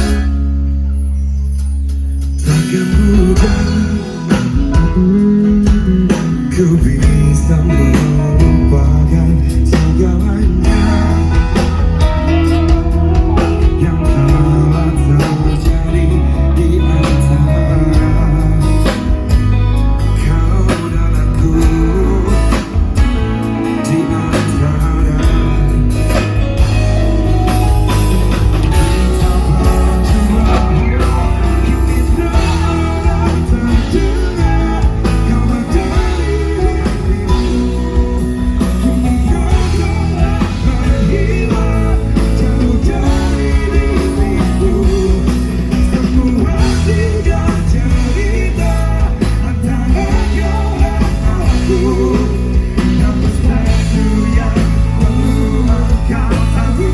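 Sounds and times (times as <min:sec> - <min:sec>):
rock song with singer: 0:00.0 - 0:56.9.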